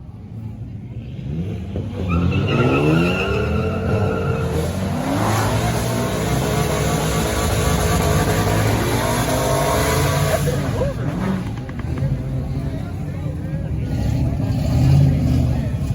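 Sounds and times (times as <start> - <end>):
car engine revving hard: 1.3 - 12.0, 13.8 - 15.9.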